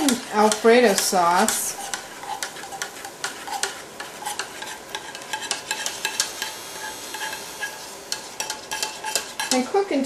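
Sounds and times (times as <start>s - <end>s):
sauce sizzling in a hot skillet: 0.0s - 10.0s.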